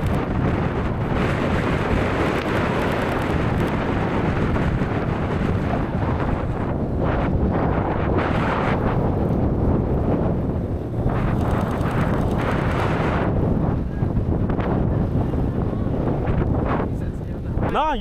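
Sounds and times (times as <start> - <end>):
off-road vehicle engine rumble: 0.0 - 7.0, 9.6 - 17.8
wind buffeting microphone: 0.0 - 18.0.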